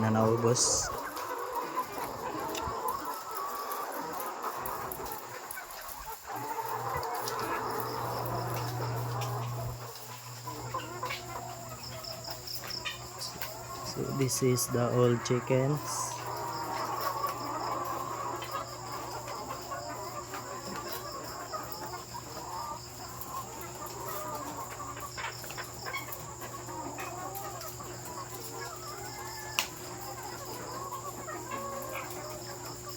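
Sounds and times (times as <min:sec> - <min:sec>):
hens clucking: 0:00.0 - 0:32.9
insect-like chirring: 0:00.0 - 0:32.9.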